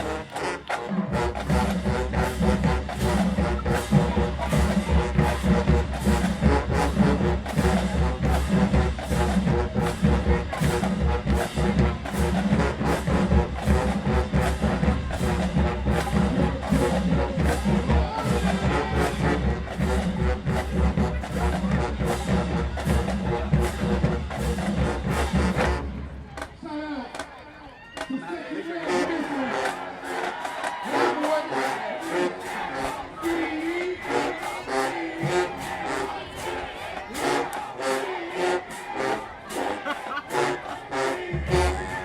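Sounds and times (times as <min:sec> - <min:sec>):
brass section playing: 0:00.0 - 0:26.2, 0:28.6 - 0:42.0
drumline beat: 0:00.0 - 0:27.4, 0:28.9 - 0:42.0.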